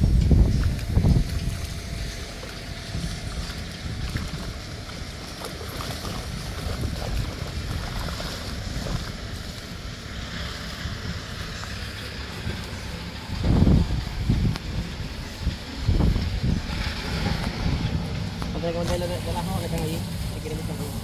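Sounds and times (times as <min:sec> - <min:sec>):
water splashing and sloshing: 0:00.0 - 0:21.0
wind buffeting microphone: 0:00.0 - 0:21.0.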